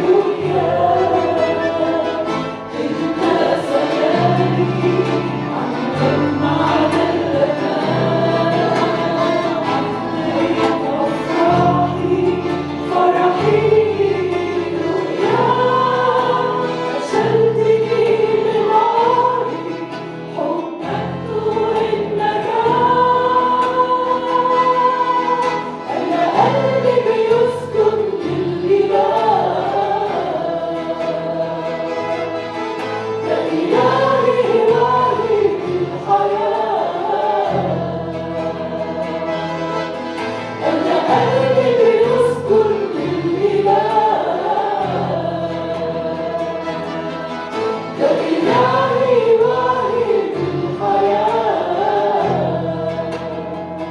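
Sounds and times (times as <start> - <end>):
instrumental accompaniment with bass: 0.0 - 53.9
voices singing a hymn: 0.0 - 53.9.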